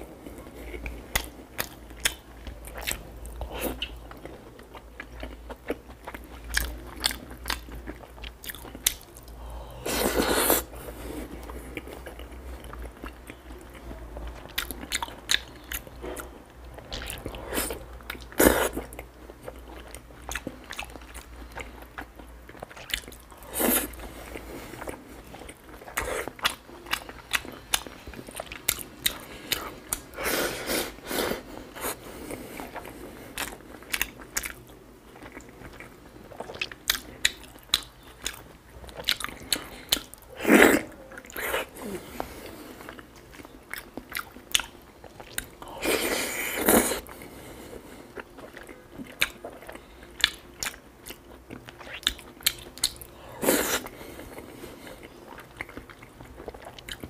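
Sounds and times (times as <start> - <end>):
person chewing wet mouth sounds: 0.2 - 57.0.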